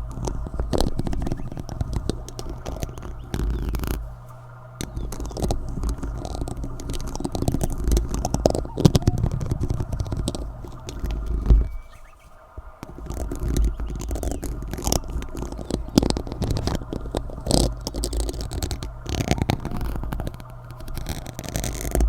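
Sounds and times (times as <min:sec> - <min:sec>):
low rumble: 0:00.0 - 0:21.5
spoons clicking and scraping: 0:00.0 - 0:22.0.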